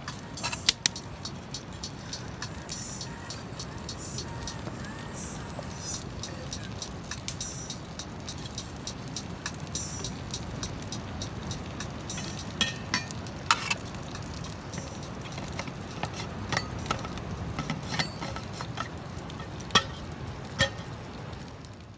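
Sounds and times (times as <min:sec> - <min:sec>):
campfire crackling and popping: 0:00.0 - 0:21.9.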